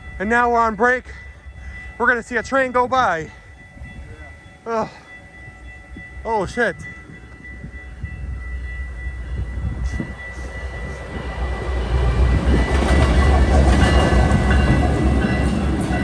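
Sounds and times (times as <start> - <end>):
diesel locomotive engine rumble: 0.0 - 16.0
steady high tone: 0.0 - 16.0
train wheel noise: 0.0 - 16.0.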